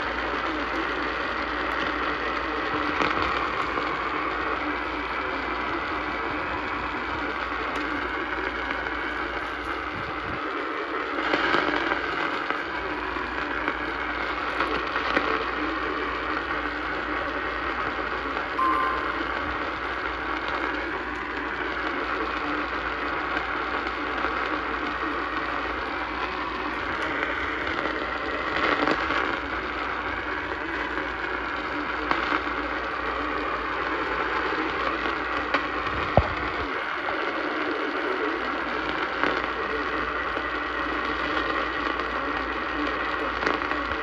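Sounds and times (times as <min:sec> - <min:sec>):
radio static hiss with crackles: 0:00.0 - 0:44.0.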